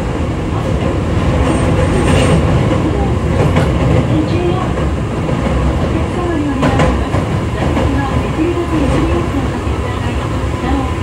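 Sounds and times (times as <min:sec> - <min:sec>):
rail joint clicks: 0:00.0 - 0:11.0
train wheels and motors rumbling: 0:00.0 - 0:11.0.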